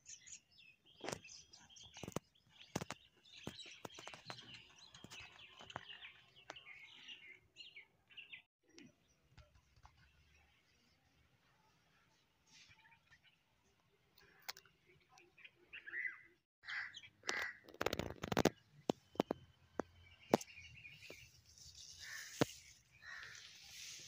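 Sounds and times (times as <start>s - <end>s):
small birds chirping: 0.0s - 11.3s, 12.6s - 24.0s.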